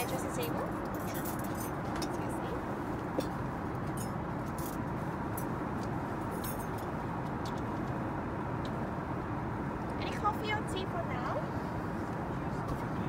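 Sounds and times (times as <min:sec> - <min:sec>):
airliner cabin noise in flight: 0:00.0 - 0:13.0.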